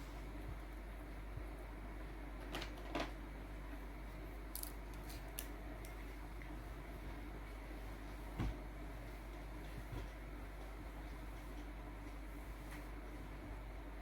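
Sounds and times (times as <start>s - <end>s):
low room hiss: 0.0s - 14.0s.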